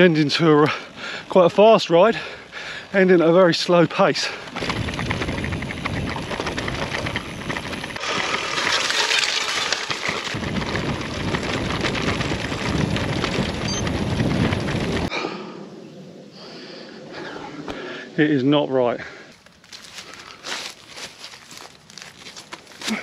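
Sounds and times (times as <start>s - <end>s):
bike rattling over rough ground: 0.0s - 15.1s, 19.3s - 23.0s
bike tyre rumble: 0.0s - 15.2s, 19.0s - 23.0s
quiet outdoor background: 0.0s - 23.0s.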